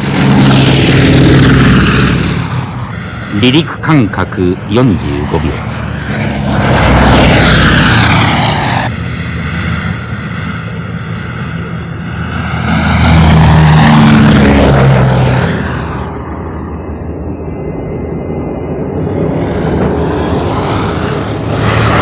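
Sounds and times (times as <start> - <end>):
propeller aircraft drone: 0.0 - 22.0.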